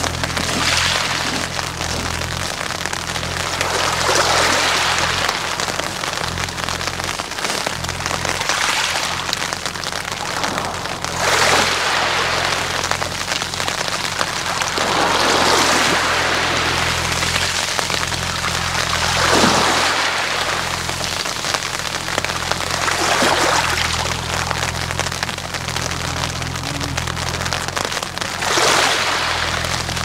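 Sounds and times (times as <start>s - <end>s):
waves washing over pebbles: 0.0s - 30.0s.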